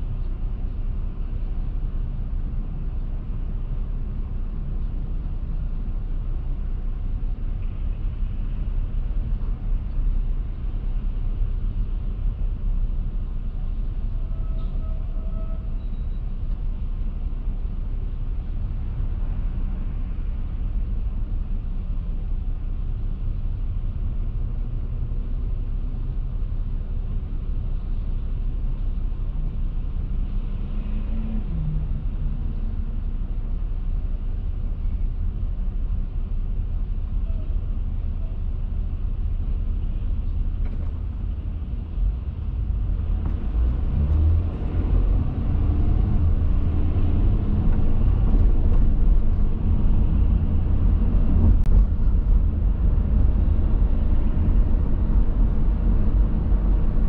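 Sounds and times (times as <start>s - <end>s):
traffic idling rumble: 0.0s - 30.6s, 31.3s - 44.0s, 45.1s - 57.0s.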